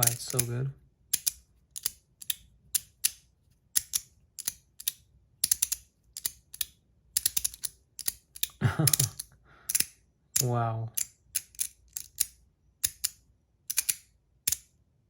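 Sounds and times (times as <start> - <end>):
magnetic slider fidget clicking: 1.1 - 3.2, 3.8 - 9.0, 9.7 - 14.7.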